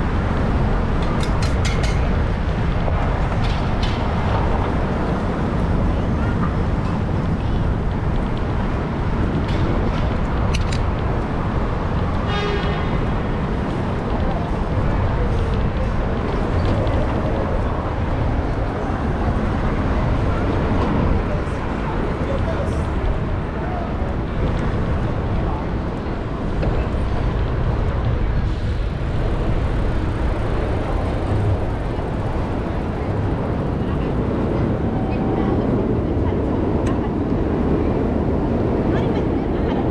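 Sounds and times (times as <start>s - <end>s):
city street traffic rumble: 0.0s - 39.9s.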